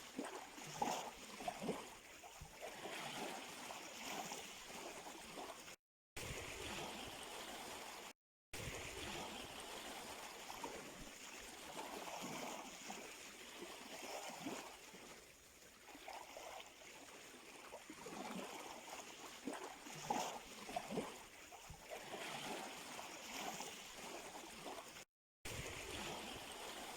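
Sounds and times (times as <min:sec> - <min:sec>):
sea water washing at shoreline: 0:00.0 - 0:26.9.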